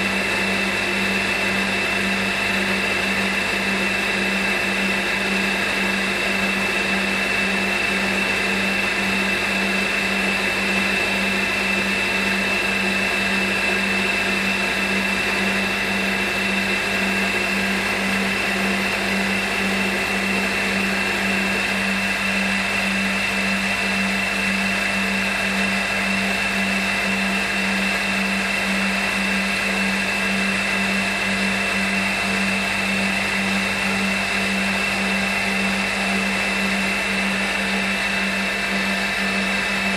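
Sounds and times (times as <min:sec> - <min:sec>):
milling machine spindle whine: 0:00.0 - 0:39.9.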